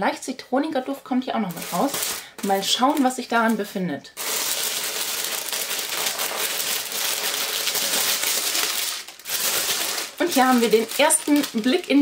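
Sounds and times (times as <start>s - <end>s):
tissue paper rustling: 1.5s - 3.6s, 4.2s - 12.0s.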